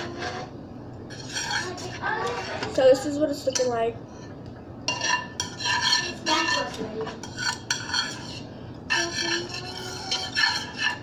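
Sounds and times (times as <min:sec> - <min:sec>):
utensil scraping frying pan: 0:00.0 - 0:02.8, 0:04.9 - 0:11.0.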